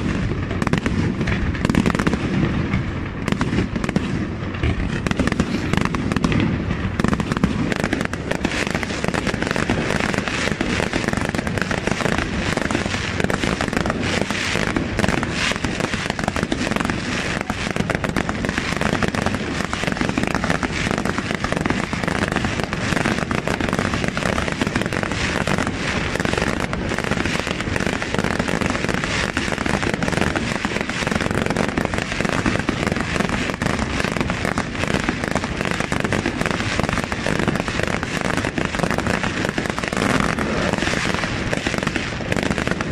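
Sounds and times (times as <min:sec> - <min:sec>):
fireworks bursting and crackling: 0:00.0 - 0:42.9.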